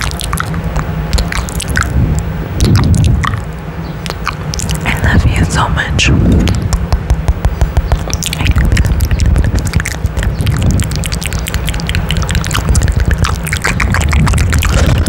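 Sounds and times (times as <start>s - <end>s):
wet kissing smacks: 0.0s - 4.9s, 6.4s - 15.0s
low rumble: 0.0s - 15.0s.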